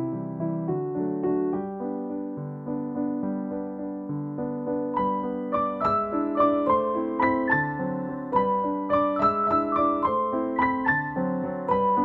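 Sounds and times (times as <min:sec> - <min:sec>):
light piano music: 0:00.0 - 0:12.0.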